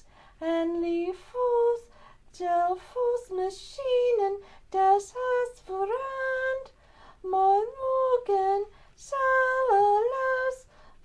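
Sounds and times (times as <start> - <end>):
woman singing: 0.0 - 10.8.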